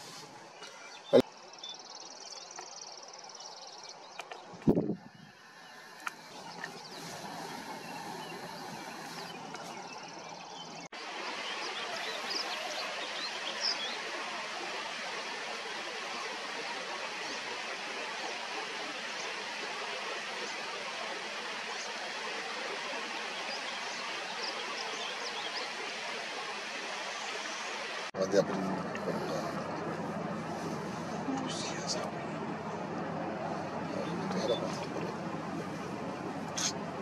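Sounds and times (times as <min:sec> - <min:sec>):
stream water flowing: 0:00.0 - 0:37.0.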